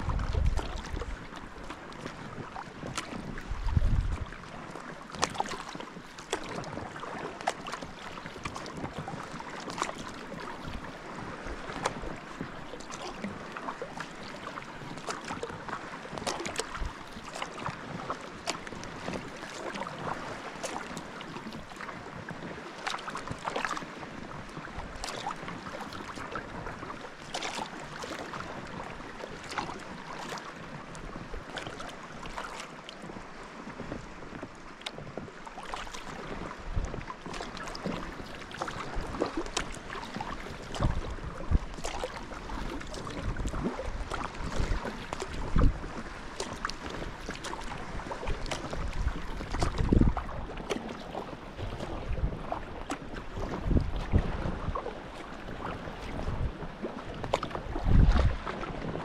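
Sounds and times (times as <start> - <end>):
paddle splashes: 0.0 - 59.0.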